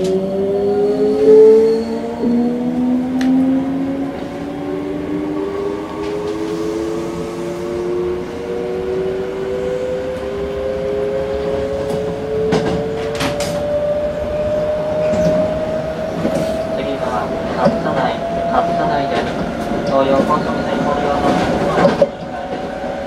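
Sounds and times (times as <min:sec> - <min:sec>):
train running noise: 0:00.0 - 0:23.0
train traction motors whining: 0:01.9 - 0:23.0.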